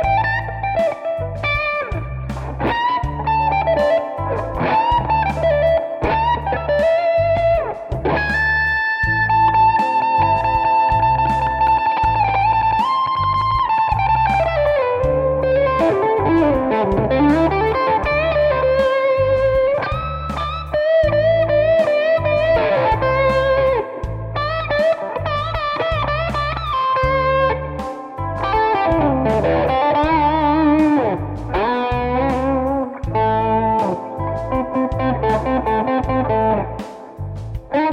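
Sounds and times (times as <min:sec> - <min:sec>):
electric guitar lead lines: 0:00.0 - 0:37.9
low bass rhythm: 0:00.0 - 0:37.9.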